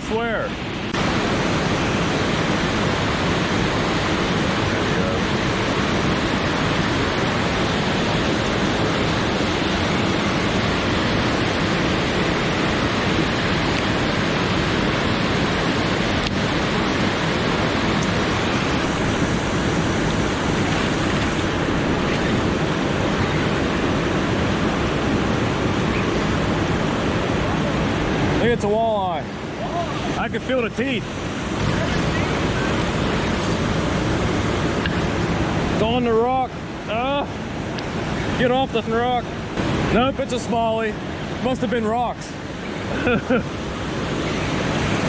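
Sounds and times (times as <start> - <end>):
fast-flowing river water: 0.0 - 45.0.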